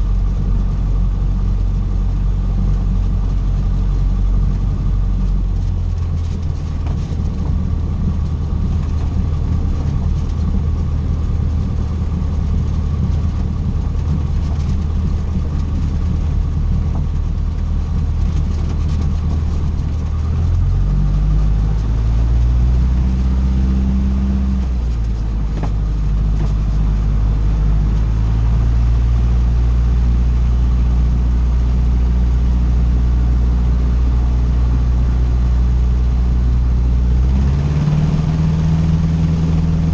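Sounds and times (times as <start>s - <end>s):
small airplane engine running: 0.0s - 39.9s.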